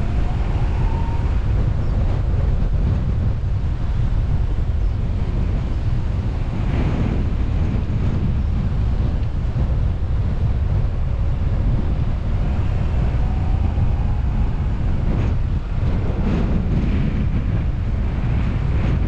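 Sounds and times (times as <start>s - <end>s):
moving car rumble: 0.0s - 19.0s
wind buffeting microphone: 0.0s - 19.0s.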